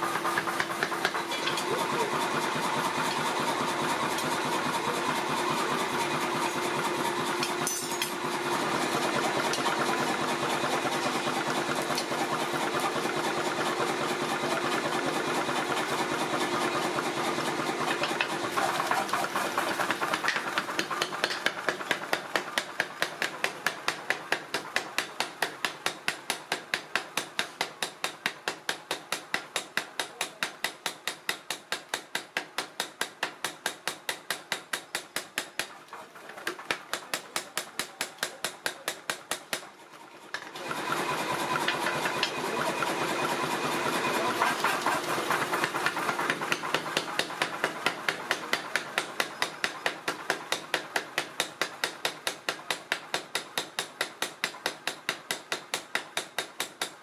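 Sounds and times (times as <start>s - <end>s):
hammer running mechanism: 0.0s - 57.0s
power hammer blows on hot iron: 0.0s - 57.0s.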